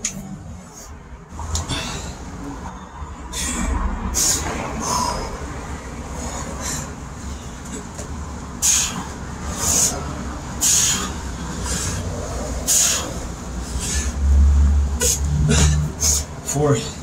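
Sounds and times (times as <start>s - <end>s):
man breathing hard: 0.7s - 17.0s.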